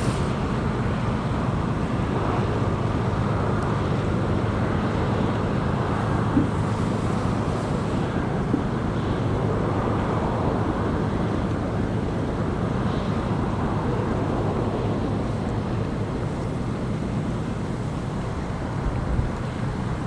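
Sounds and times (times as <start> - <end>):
ship machinery low rumble: 0.0 - 20.0.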